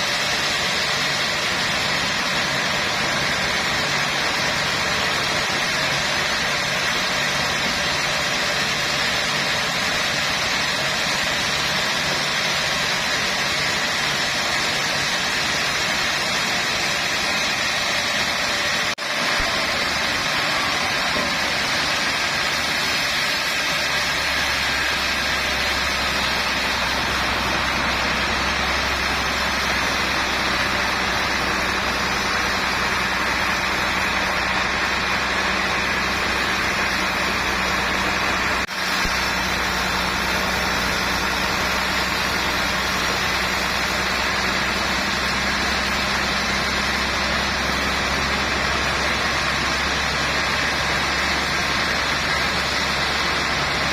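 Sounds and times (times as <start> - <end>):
sawmill machinery whirring: 0.0 - 53.9.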